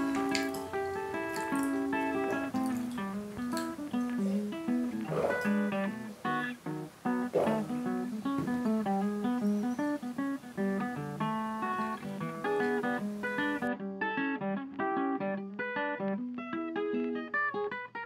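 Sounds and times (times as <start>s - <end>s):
guitar strum: 0.0s - 18.0s
plucked guitar melody: 0.0s - 18.0s.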